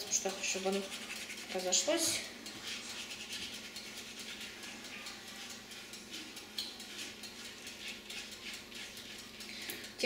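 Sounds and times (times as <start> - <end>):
spatula stirring: 0.0 - 10.0.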